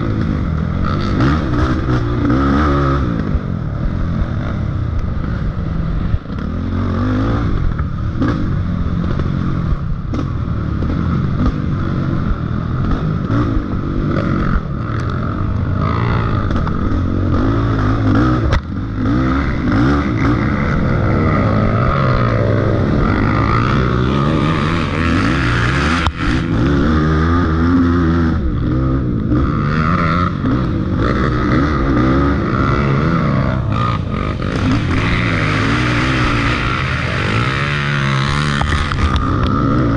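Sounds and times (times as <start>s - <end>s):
off-road engine revving: 0.0s - 39.9s.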